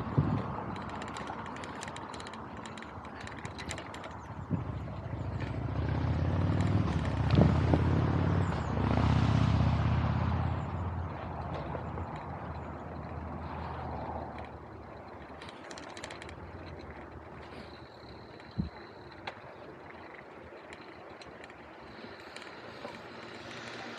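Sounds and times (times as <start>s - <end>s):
vehicle passing by: 0.0s - 17.9s, 21.8s - 23.9s
street noise: 0.0s - 23.9s.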